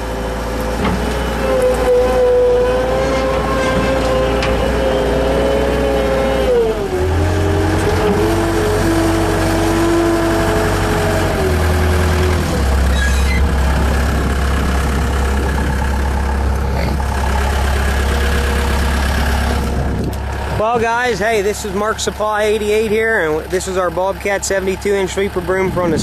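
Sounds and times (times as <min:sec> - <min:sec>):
loader engine running: 0:00.0 - 0:26.0.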